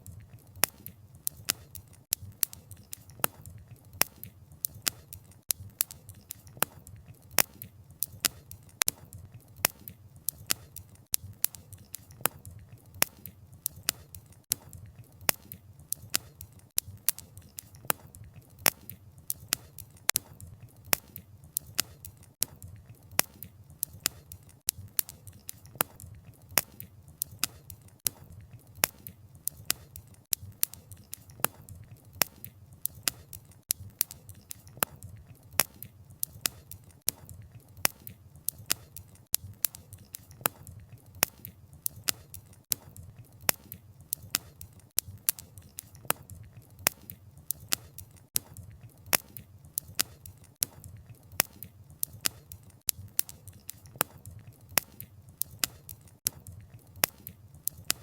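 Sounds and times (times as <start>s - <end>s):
wood fire pops and snaps: 0.0s - 58.0s.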